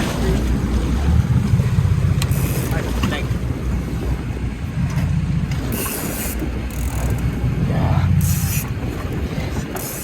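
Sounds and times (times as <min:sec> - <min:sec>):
boat engine rumble: 0:00.0 - 0:10.0
wind buffeting microphone: 0:00.0 - 0:10.0.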